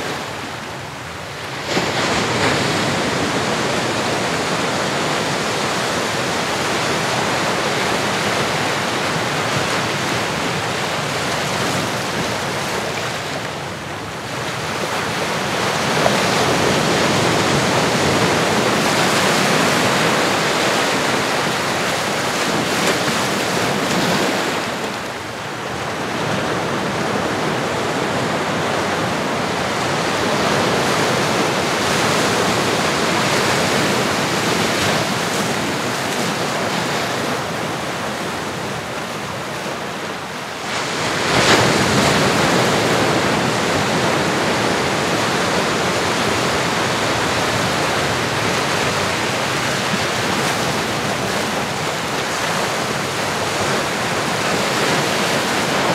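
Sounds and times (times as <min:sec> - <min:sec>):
ocean waves on shore: 0:00.0 - 0:55.9.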